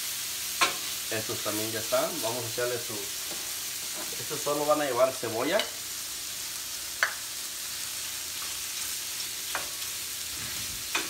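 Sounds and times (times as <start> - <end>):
shrimp sizzling in a skillet: 0.0 - 11.0.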